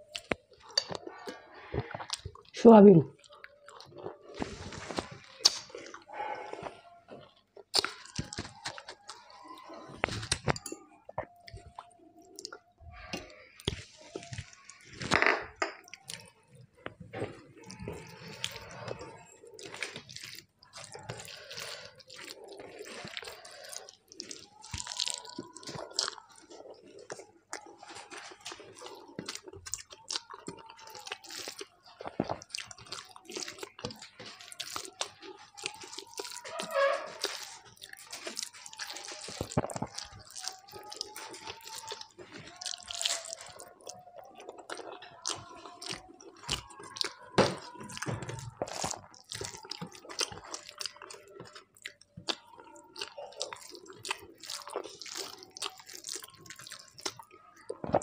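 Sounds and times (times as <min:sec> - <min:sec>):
wet chewing and lip-smacking: 0:00.0 - 0:14.9, 0:15.8 - 0:58.0.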